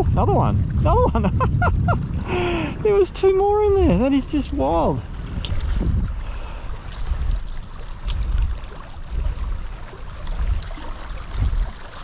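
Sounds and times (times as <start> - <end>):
low rumble: 0.0 - 11.7
water lapping and sloshing: 0.0 - 12.0.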